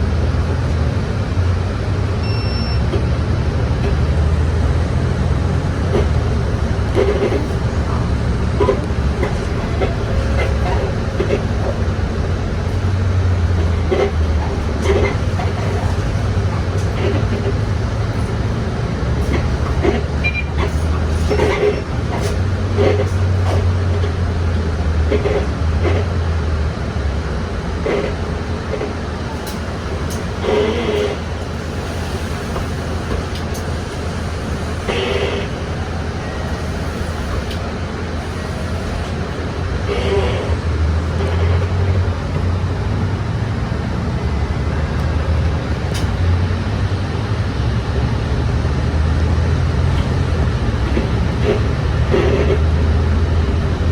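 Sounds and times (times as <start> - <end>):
bus body creaks and rattles: 0.0 - 53.9
bus engine and road drone: 0.0 - 53.9.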